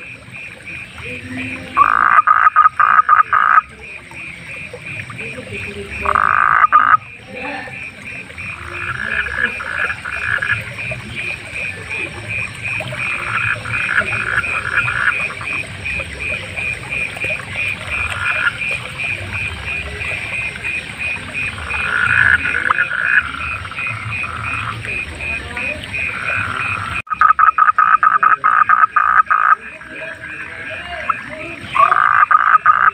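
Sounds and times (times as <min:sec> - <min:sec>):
frog pulsing call: 0:00.0 - 0:32.9
frogs rattling croaks: 0:00.0 - 0:32.9.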